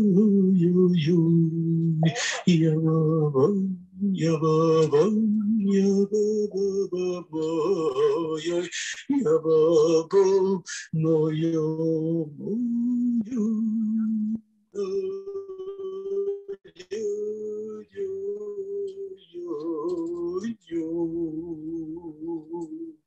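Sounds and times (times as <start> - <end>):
voices singing wordless melody: 0.0 - 23.0.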